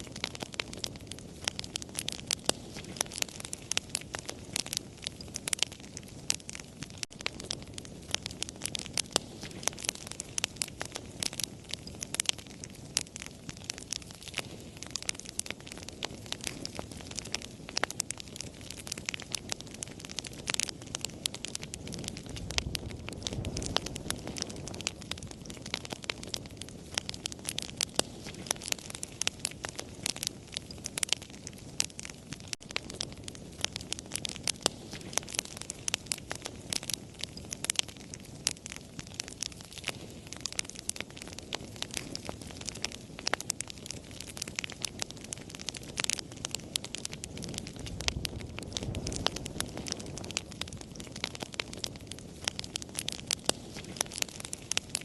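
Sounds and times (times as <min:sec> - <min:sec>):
campfire crackling: 0:00.0 - 0:55.0
low hiss of burning: 0:00.0 - 0:55.0.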